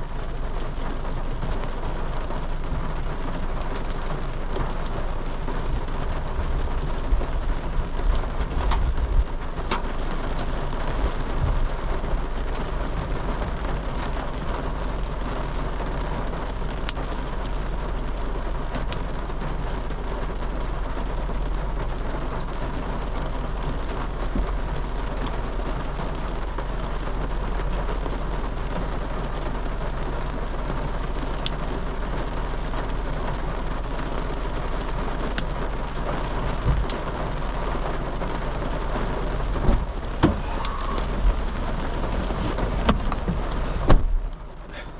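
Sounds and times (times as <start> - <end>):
low rumble: 0.0 - 32.1, 34.4 - 44.9
heavy rain pelting a car: 0.0 - 44.9
hailstones ticking: 0.3 - 44.9.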